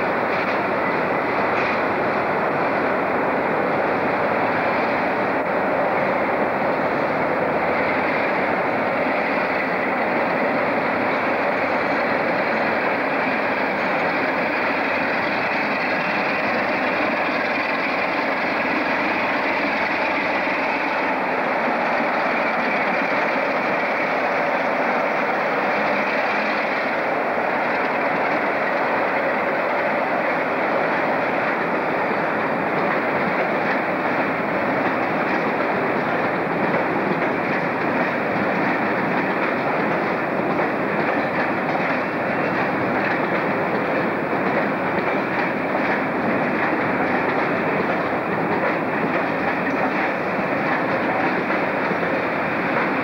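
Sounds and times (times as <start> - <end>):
train noise: 0.0 - 53.0.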